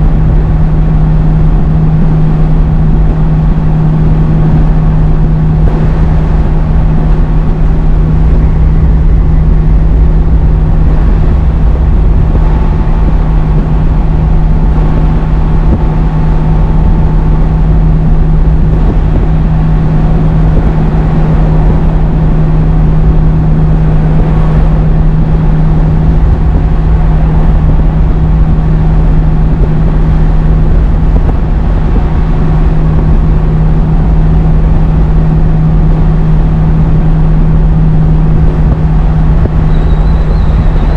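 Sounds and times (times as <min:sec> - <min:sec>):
road and tyre rumble: 0:00.0 - 0:40.9
truck diesel engine running: 0:00.0 - 0:40.9.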